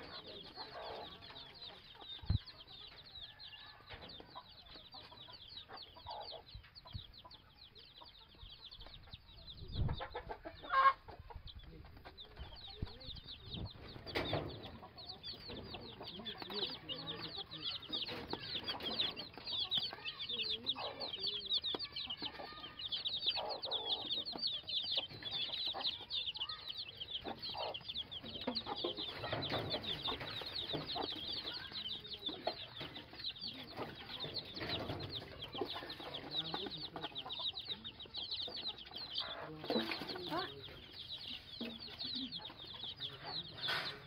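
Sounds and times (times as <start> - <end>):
chicks peeping: 0.0 - 44.0
hen clucking: 0.0 - 44.0.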